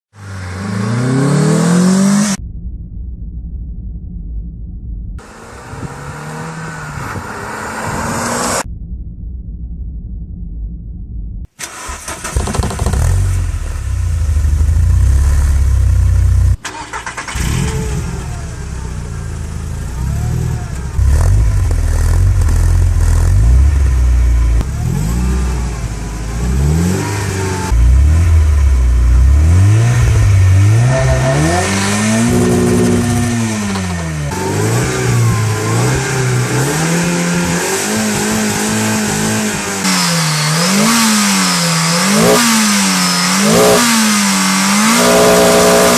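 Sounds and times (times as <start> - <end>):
car engine revving: 0.1 - 2.4, 5.2 - 8.7, 11.6 - 45.9.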